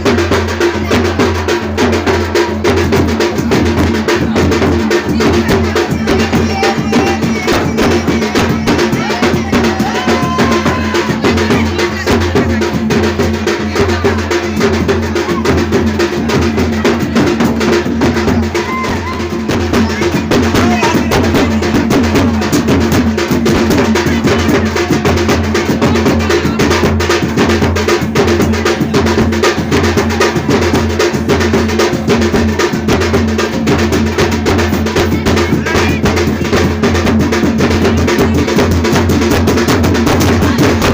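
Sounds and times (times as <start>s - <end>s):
drum-led music: 0.0s - 40.9s
voices: 0.0s - 40.9s.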